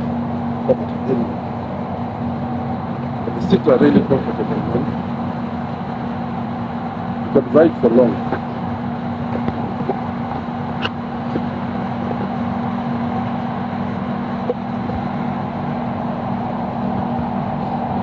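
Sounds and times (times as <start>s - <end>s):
constant low hum: 0.0s - 18.0s
underground train rumbling: 0.0s - 18.0s.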